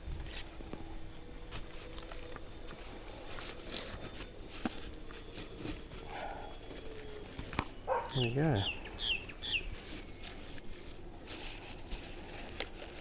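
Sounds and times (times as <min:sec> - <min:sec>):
bag rustling: 0:00.0 - 0:13.0.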